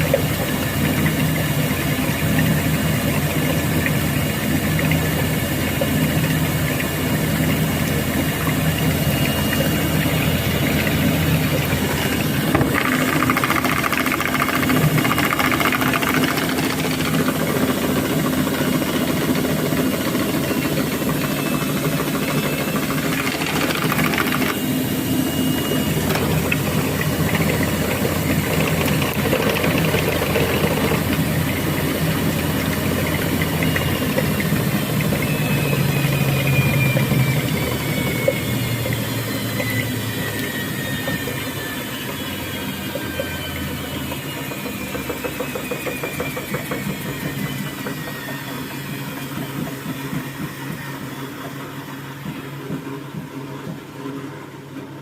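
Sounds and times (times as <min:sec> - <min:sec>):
washing machine motor whining: 0:00.0 - 0:55.0.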